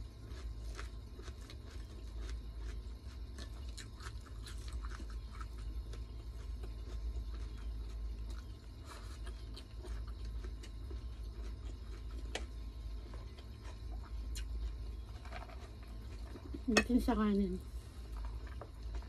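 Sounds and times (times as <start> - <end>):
chewing and eating: 0.0 - 19.0
steady low hum: 0.0 - 19.0.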